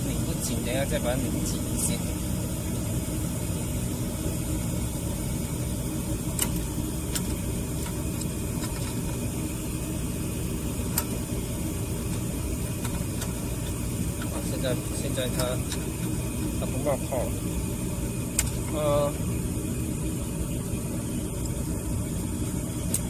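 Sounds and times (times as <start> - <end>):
gas furnace humming: 0.0 - 23.0.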